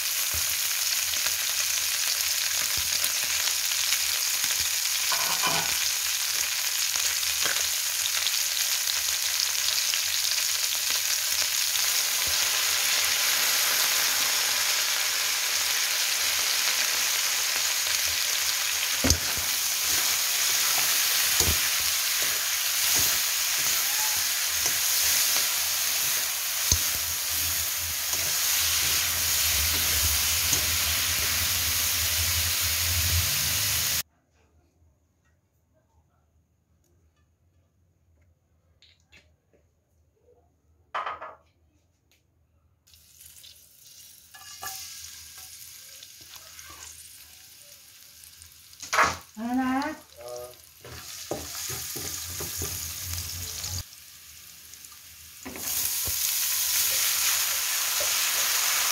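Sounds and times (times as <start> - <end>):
vegetables sizzling in wok: 0.0 - 34.0, 42.9 - 58.9.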